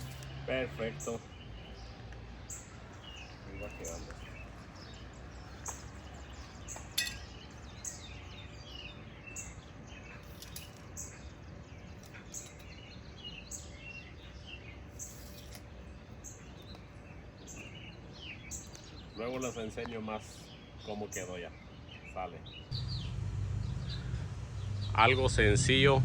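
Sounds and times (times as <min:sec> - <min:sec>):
low outdoor background: 0:00.0 - 0:26.0
small birds chirping: 0:00.0 - 0:26.0.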